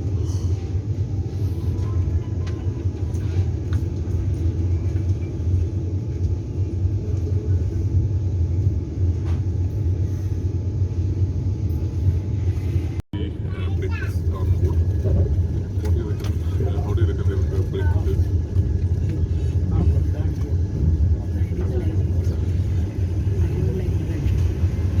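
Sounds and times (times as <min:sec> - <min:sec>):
train rumbling on track: 0:00.0 - 0:25.0.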